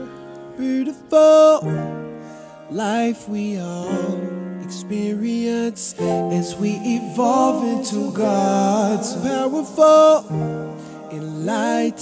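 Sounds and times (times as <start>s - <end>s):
man singing over backing track: 0.0s - 1.9s, 2.6s - 12.0s.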